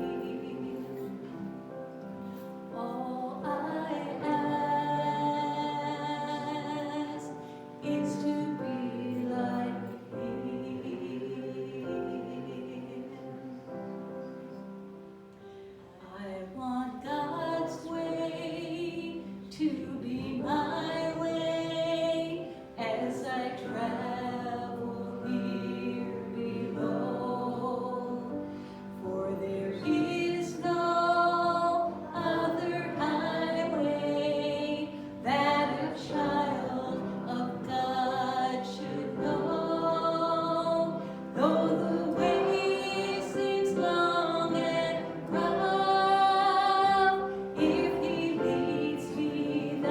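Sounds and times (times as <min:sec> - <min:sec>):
congregation singing a hymn: 0:00.0 - 0:15.0, 0:16.0 - 0:49.9
sustained musical accompaniment: 0:00.0 - 0:49.9.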